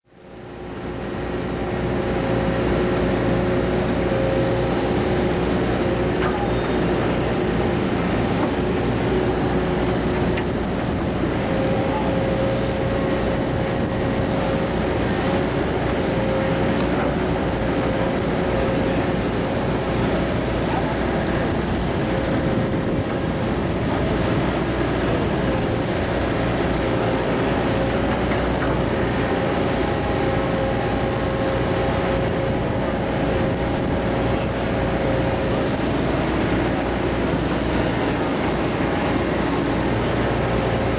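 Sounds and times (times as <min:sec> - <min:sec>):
excavator diesel engine running: 0:00.1 - 0:40.9.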